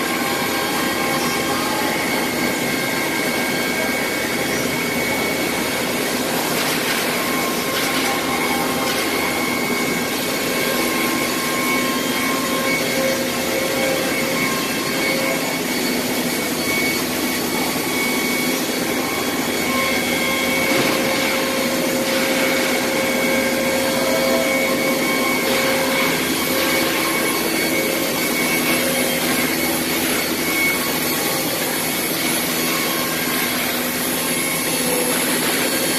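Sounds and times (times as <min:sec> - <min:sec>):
whining machine tones: 0:00.0 - 0:35.9
wood router rushing noise: 0:00.0 - 0:35.9.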